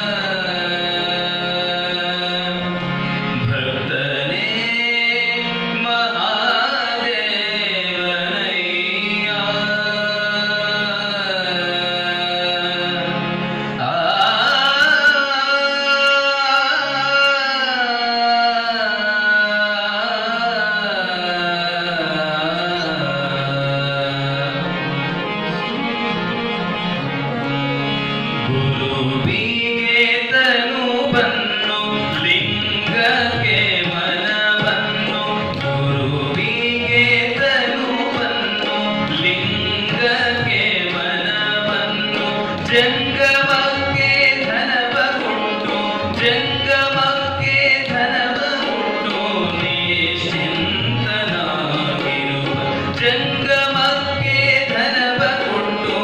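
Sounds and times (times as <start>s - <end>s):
harmonium: 0.0s - 56.0s
man singing devotional song: 0.0s - 56.0s
tabla: 0.0s - 56.0s.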